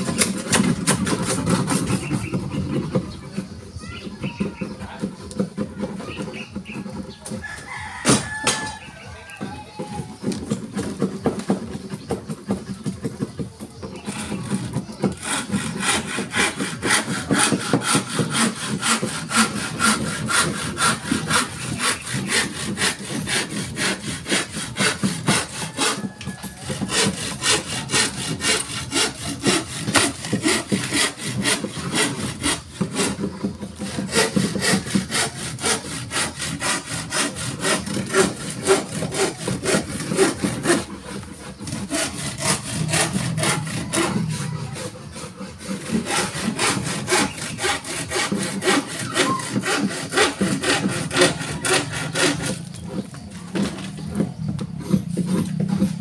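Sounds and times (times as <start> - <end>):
hand saw cutting wood: 0.0 - 56.0.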